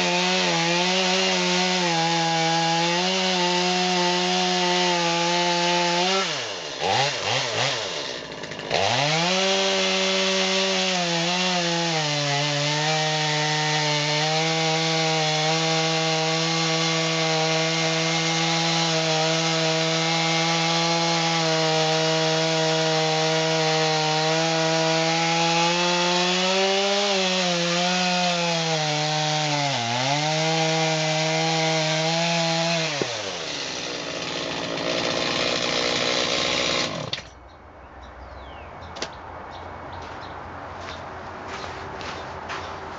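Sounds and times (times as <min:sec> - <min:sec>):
chainsaw cutting wood: 0:00.0 - 0:37.4.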